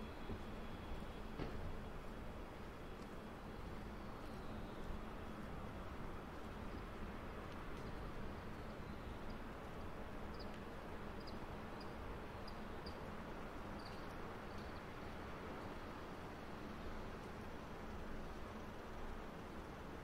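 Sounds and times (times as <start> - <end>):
distant city traffic rumble: 0.0 - 20.0.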